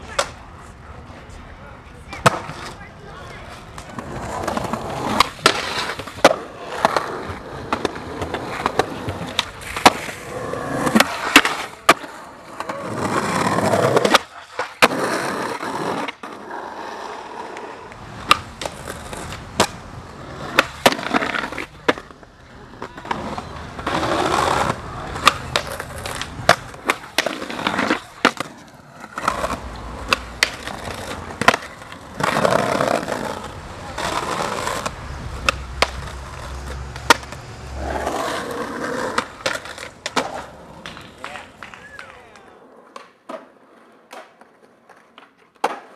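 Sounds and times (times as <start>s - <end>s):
skateboard wheels rolling: 0.0s - 45.9s
skateboards grinding on ledges: 0.0s - 45.9s
skateboards popping and landing: 0.0s - 45.9s.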